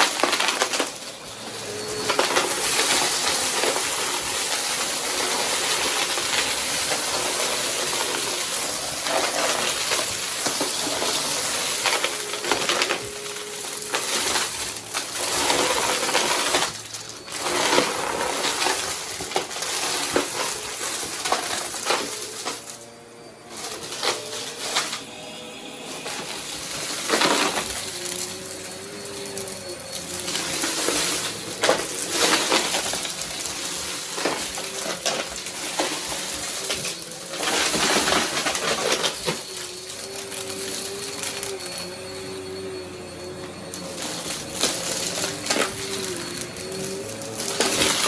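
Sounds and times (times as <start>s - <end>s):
debris crackling in vacuum: 0.0s - 48.0s
vacuum cleaner running: 0.0s - 48.0s.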